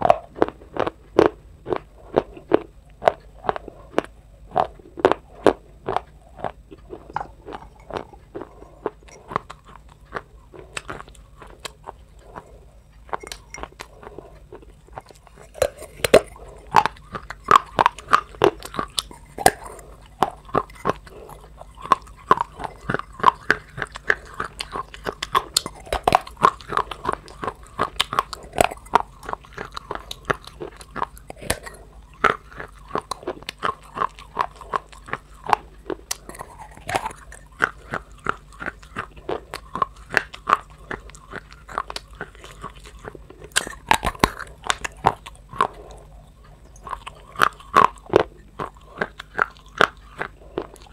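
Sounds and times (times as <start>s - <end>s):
crunching and chewing: 0.0s - 50.9s.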